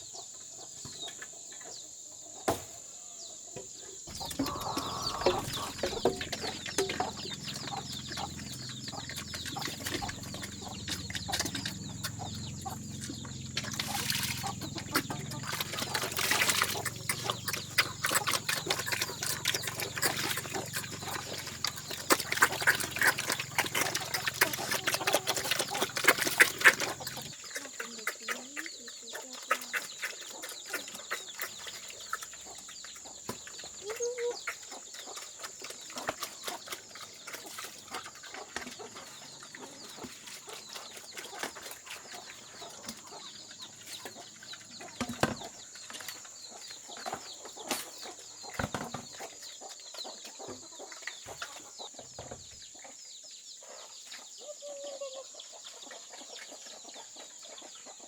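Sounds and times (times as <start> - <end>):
chickens clucking: 3.3 - 58.0.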